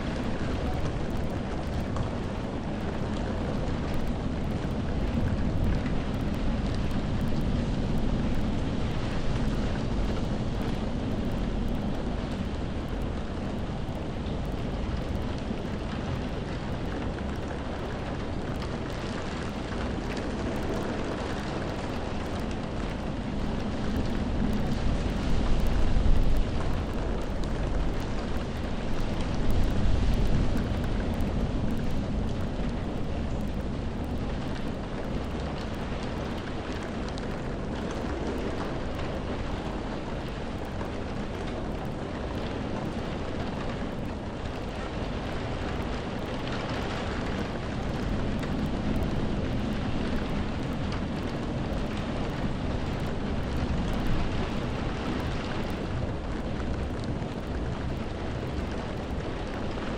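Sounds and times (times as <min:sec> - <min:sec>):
deep rumble: 0:00.0 - 0:59.9
steady rain hiss: 0:00.0 - 0:59.9.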